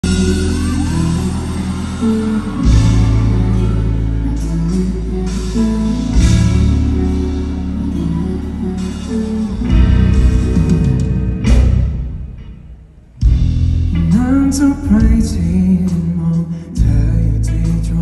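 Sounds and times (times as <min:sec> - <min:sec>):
bass and cymbal hits: 0:00.0 - 0:16.0
live band playing instrumental: 0:00.0 - 0:18.0.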